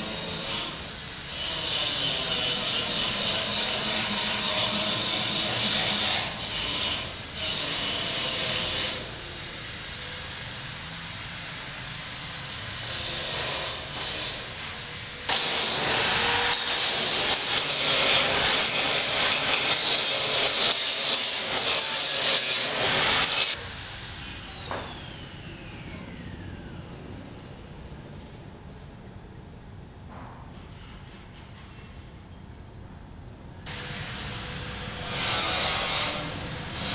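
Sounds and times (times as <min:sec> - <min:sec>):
power cutting tool whining: 0:00.0 - 0:27.6, 0:33.7 - 0:36.9.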